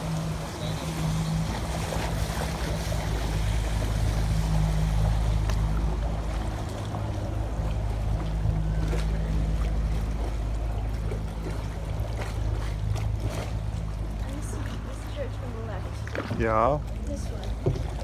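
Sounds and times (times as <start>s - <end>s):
faint splashes: 0.0s - 18.0s
motorboat engine humming: 0.0s - 18.0s
water lapping: 0.0s - 18.0s.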